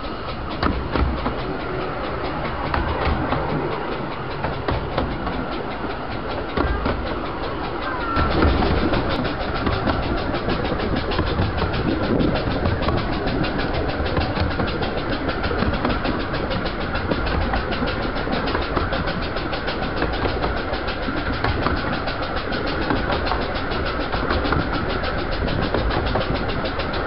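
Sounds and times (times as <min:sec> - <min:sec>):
fast pulsing steam beat: 0:00.0 - 0:27.0
train wheels rumbling on rail: 0:00.0 - 0:27.0.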